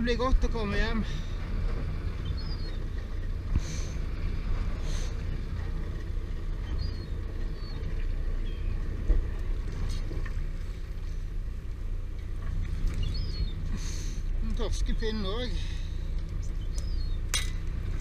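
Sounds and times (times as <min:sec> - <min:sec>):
boat motor rumbling: 0:00.0 - 0:18.0.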